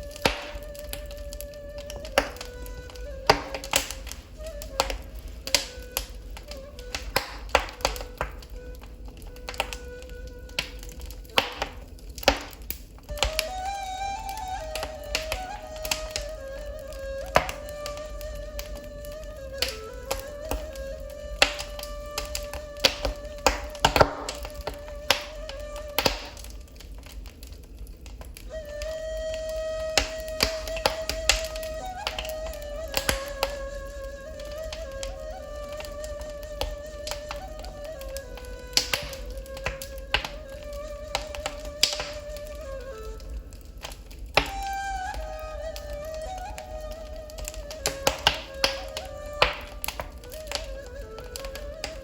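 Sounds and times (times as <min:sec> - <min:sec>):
burning logs popping: 0:00.0 - 0:52.0
low held flute tone: 0:00.0 - 0:52.0
wood fire crackling: 0:00.0 - 0:52.0.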